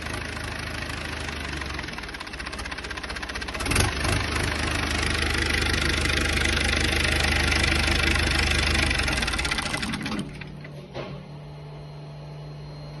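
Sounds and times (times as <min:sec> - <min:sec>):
diesel engine running: 0:00.0 - 0:10.8.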